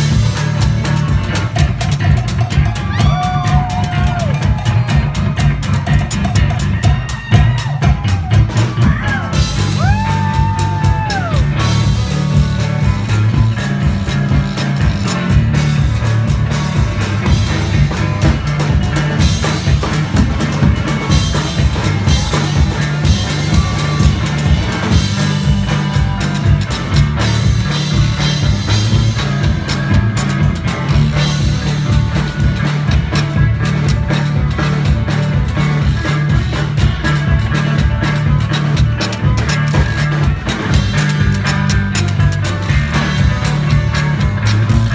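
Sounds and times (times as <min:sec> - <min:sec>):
drum kit beat: 0:00.0 - 0:44.9
electric guitar: 0:00.0 - 0:44.9.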